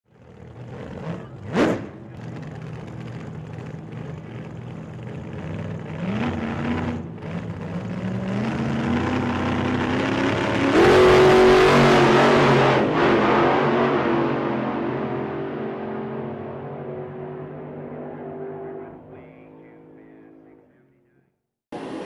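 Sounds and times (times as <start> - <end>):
engine revving up: 0.5 - 20.6.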